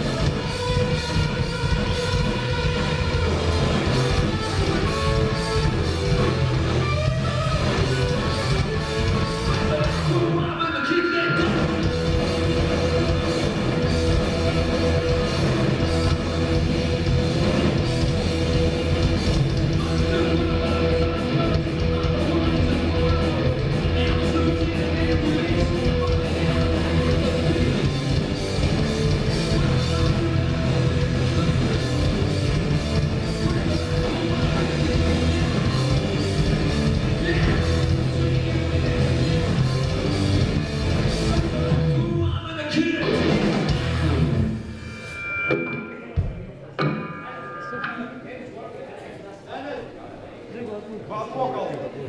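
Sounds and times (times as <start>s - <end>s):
bass guitar: 0.0s - 10.5s, 11.3s - 45.5s
drum kit: 0.0s - 10.5s, 11.3s - 48.1s
electric guitars: 0.0s - 48.0s.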